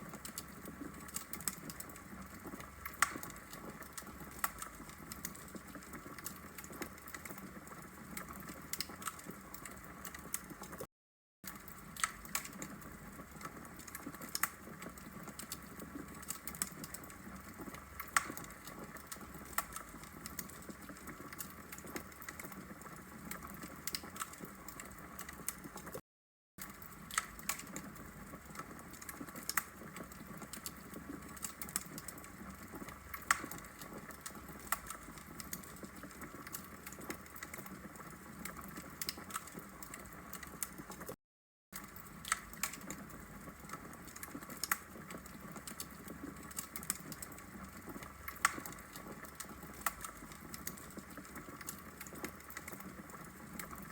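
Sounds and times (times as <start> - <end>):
wood logs crackling in fireplace: 0.0 - 26.0, 26.6 - 41.2, 41.8 - 53.9.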